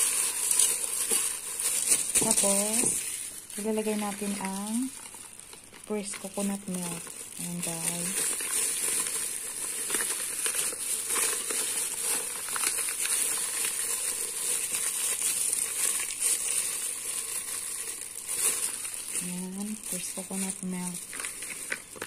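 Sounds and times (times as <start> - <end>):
plastic crinkling and rustling: 0.0 - 22.0.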